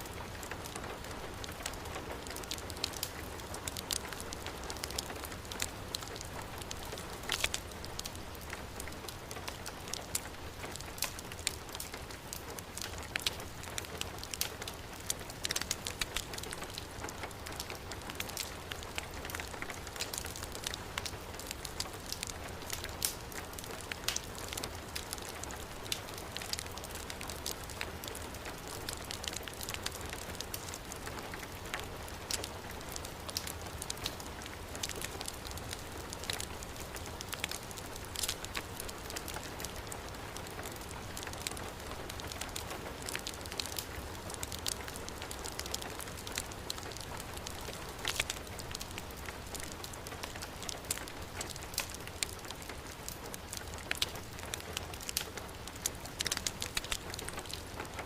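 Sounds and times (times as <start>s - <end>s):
wood fire crackling: 0.0s - 58.0s
heavy rain falling: 0.1s - 58.0s.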